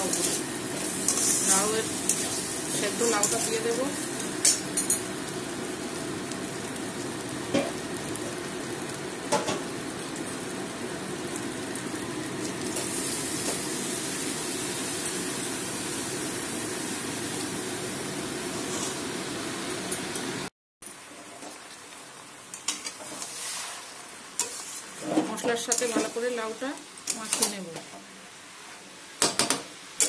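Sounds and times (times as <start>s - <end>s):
paste sizzling in oil: 0.0s - 9.8s, 10.8s - 19.4s, 21.6s - 27.6s.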